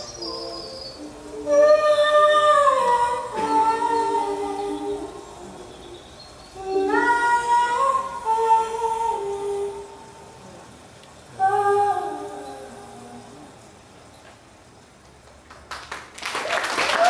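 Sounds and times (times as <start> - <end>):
woman singing wordless notes: 0.0 - 13.8.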